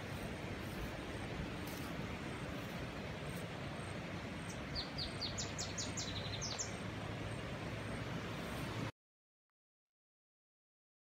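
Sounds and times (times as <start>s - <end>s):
outdoor background noise: 0.0s - 9.0s.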